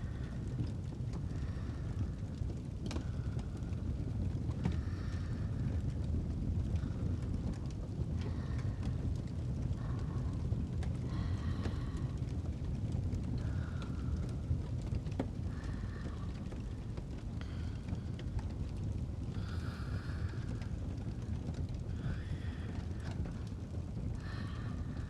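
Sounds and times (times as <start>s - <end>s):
fireplace burning and crackling: 0.0s - 25.0s.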